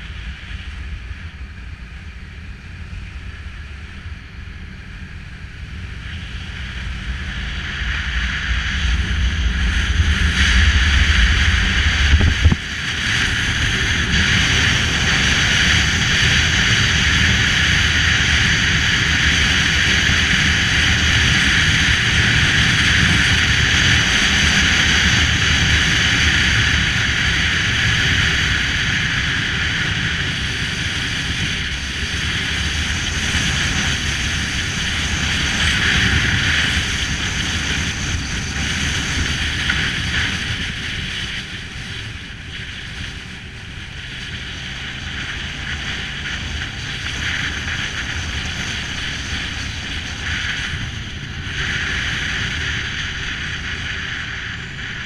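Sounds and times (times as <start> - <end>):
motorcycle engine rumble: 0.0 - 55.0
wind buffeting microphone: 0.0 - 55.0.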